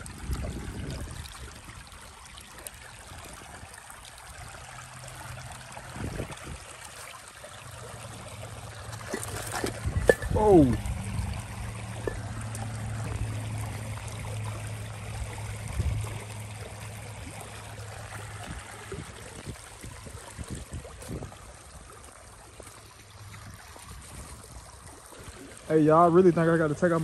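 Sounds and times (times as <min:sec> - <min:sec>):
creek trickling over stones: 0:00.0 - 0:27.0.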